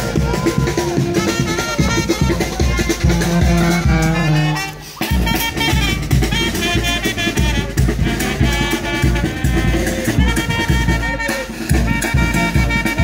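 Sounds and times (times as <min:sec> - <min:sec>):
brass band playing: 0:00.0 - 0:13.0
steady drum beat: 0:00.0 - 0:13.0.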